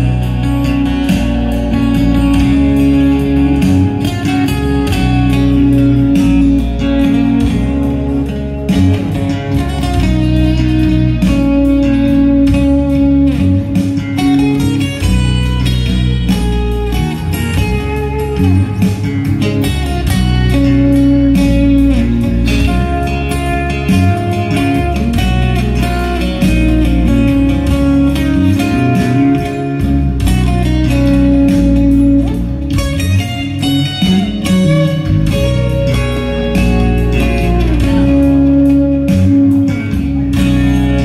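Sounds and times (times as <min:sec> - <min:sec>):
amplified electric guitar: 0:00.0 - 0:41.0
electric bass line: 0:00.0 - 0:41.0.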